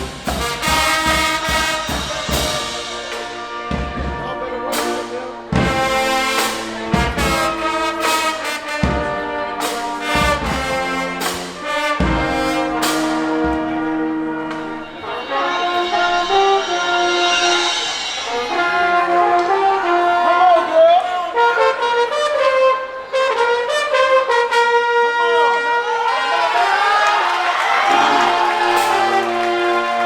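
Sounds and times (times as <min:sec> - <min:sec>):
brass chords: 0:00.0 - 0:30.0
marching band playing: 0:00.0 - 0:30.0.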